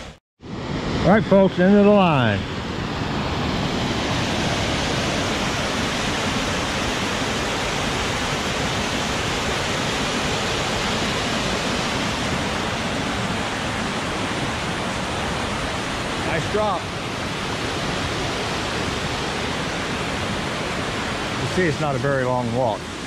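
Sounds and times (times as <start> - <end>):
waterfall rushing over rocks: 1.3 - 23.0.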